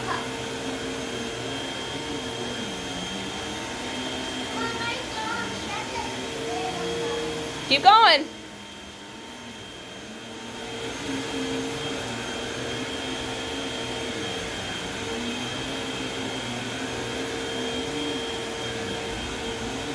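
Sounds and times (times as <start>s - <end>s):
vacuum cleaner whining: 0.0s - 19.9s.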